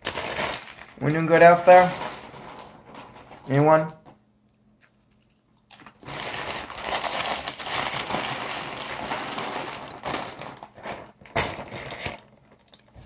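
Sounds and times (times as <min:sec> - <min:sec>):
crinkling and crackling: 0:00.0 - 0:04.2, 0:04.8 - 0:13.0.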